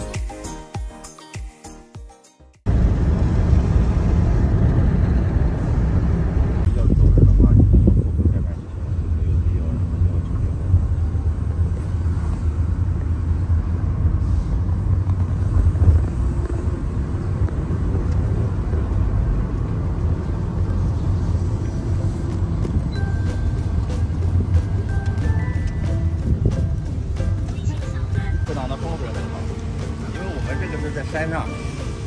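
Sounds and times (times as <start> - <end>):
vehicle rumbling: 2.6 - 32.0.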